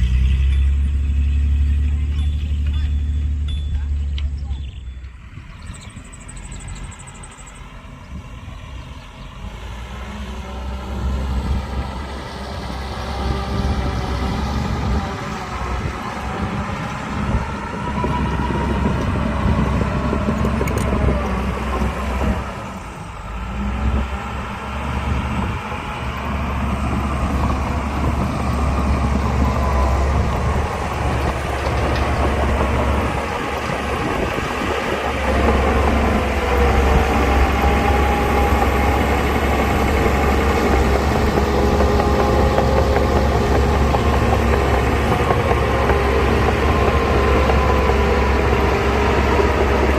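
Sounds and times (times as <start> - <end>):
heavy diesel engine under load: 0.0 - 49.9.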